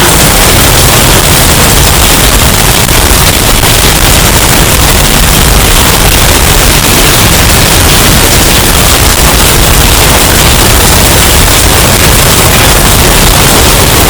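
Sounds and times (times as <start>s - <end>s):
distorted hurricane wind: 0.0s - 14.0s.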